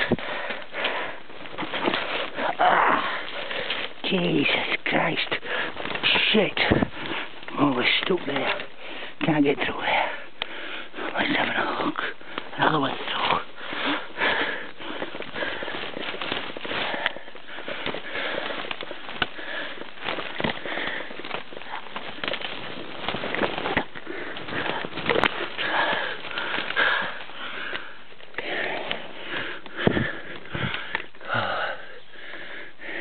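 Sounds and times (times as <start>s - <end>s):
person breathing hard through nose: 0.0s - 7.6s, 8.4s - 33.0s
twigs and branches snapping: 0.0s - 32.5s
rustling foliage: 0.0s - 33.0s.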